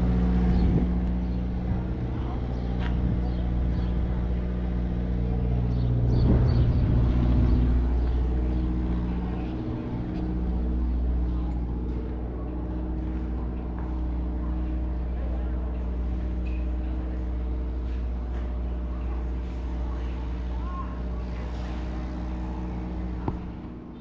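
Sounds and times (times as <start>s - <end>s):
large engine idling: 0.0s - 24.0s.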